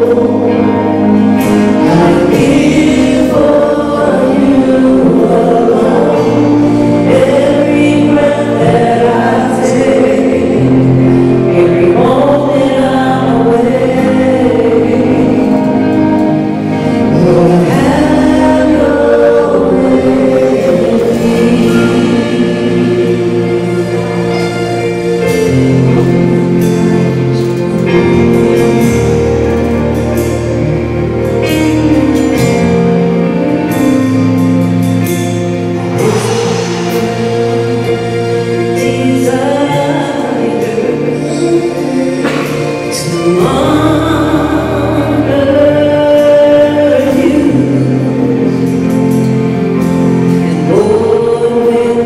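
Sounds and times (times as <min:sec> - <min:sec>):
choir singing gospel music: 0:00.0 - 0:52.0.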